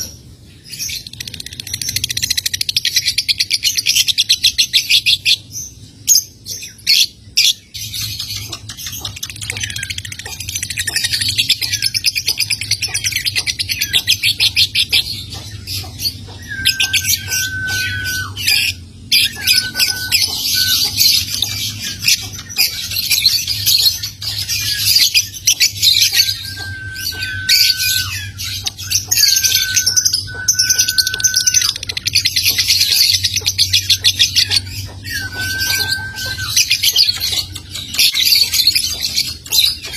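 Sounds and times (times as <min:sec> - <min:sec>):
lovebird chattering and trilling: 0:00.0 - 0:39.9.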